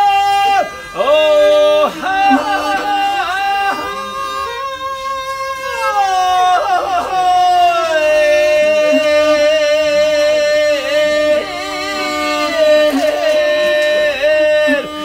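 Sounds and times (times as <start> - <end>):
bowed fiddle: 0.0 - 15.0
man singing long notes: 0.0 - 15.0.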